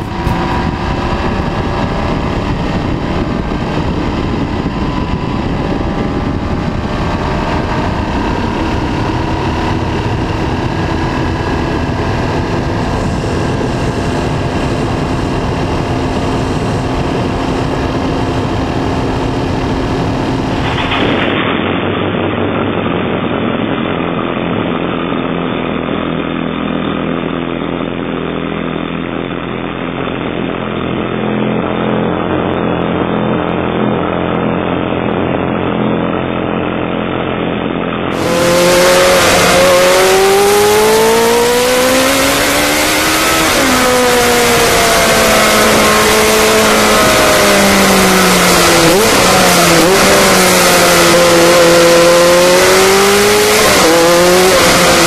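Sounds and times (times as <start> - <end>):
motorcycle engine at high revs: 0.0 - 55.0
motorcycle exhaust running steadily: 0.0 - 55.0
wind noise: 0.0 - 55.0.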